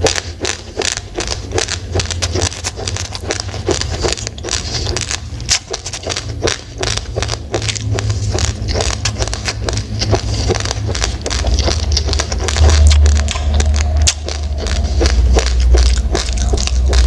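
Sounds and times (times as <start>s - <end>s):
chewing crunchy rice grains: 0.0s - 17.0s
low steady hum: 0.0s - 17.0s.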